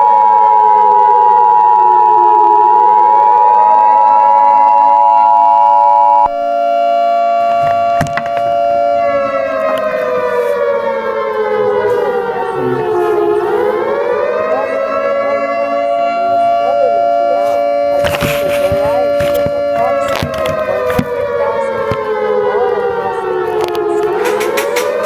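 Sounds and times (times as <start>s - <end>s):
civil defense siren wailing: 0.0s - 25.0s.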